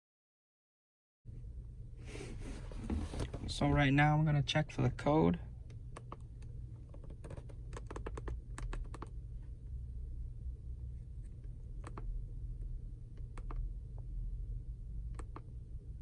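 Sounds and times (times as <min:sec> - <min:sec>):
low steady hum: 0:01.3 - 0:16.0.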